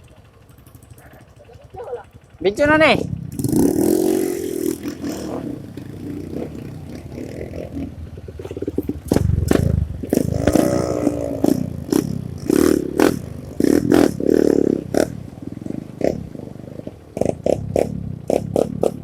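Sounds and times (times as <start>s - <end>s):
dirt bike engine revving: 0.5s - 19.0s.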